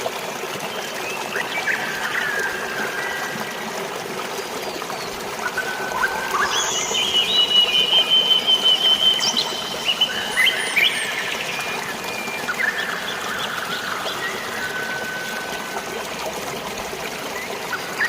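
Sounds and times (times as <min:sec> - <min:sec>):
water flowing: 0:00.0 - 0:18.0.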